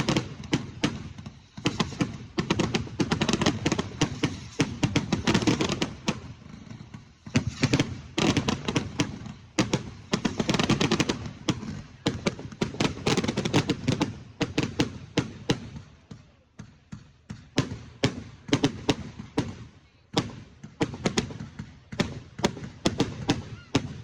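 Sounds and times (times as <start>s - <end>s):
fireworks bangs echoing: 0.0s - 24.0s.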